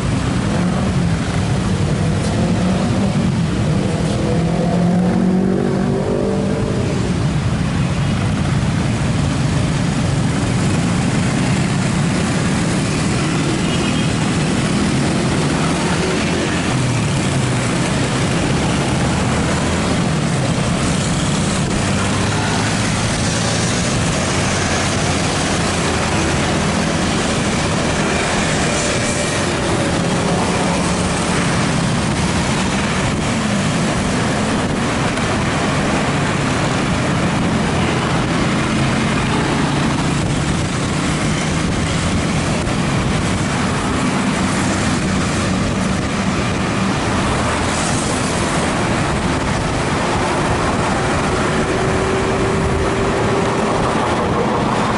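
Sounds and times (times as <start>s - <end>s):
motorcycle engine hum: 0.0s - 54.9s
wind and road noise: 0.0s - 54.9s.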